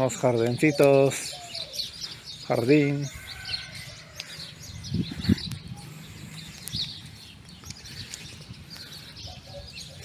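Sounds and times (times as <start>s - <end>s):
small birds chirping chorus: 0.0s - 10.0s.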